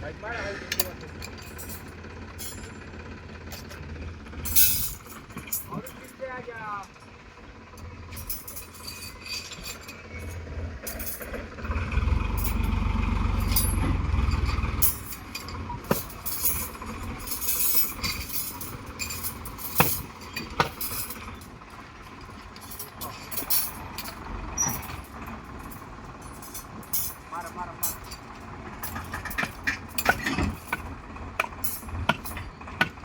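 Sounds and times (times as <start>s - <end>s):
vehicle engine running: 0.0s - 33.0s
sharp clinks: 0.7s - 2.8s, 4.4s - 6.2s, 8.1s - 11.4s, 12.4s - 32.6s.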